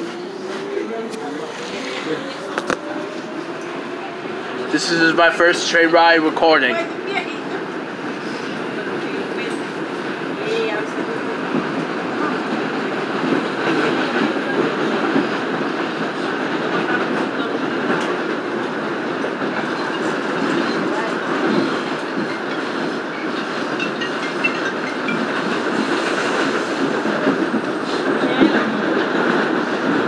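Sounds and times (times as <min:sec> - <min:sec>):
subway wheels rumbling on rail: 0:00.0 - 0:30.0.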